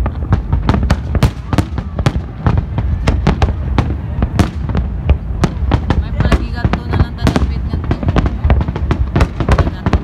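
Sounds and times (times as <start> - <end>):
firework bursts and crackling: 0.0 - 10.0.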